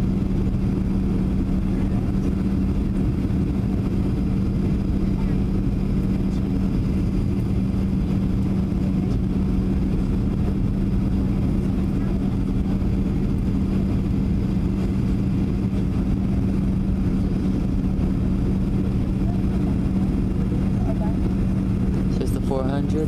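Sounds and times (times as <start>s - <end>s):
airplane cabin engine roar: 0.0s - 23.0s.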